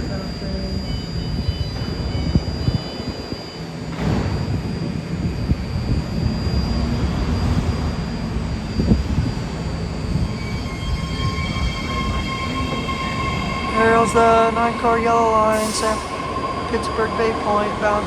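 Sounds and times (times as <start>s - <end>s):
high steady propulsion tones: 0.0s - 18.0s
train motors whining: 1.3s - 18.0s.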